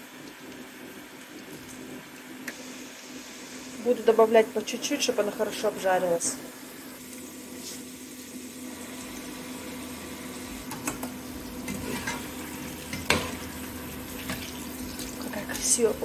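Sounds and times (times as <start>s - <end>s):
potatoes sizzling in hot oil: 0.0s - 16.0s.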